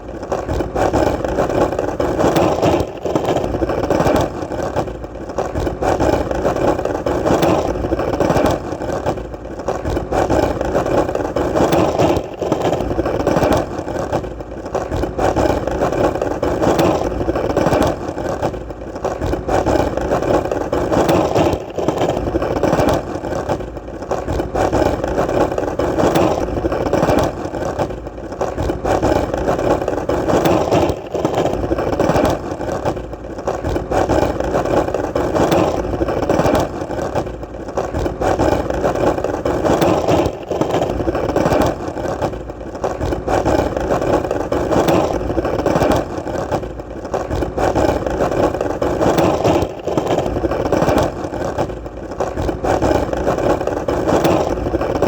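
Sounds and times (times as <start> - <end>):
skateboard wheels rolling: 0.0 - 55.0.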